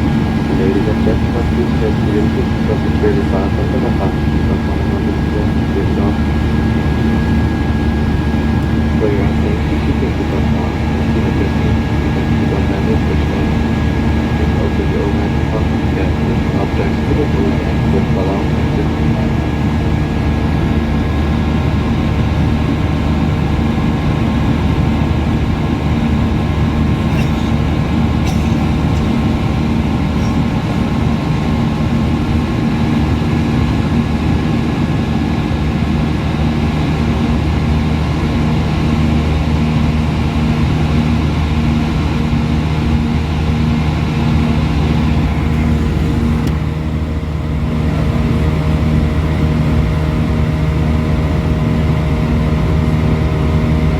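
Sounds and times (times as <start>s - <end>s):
airplane cabin engine drone: 0.0s - 53.9s.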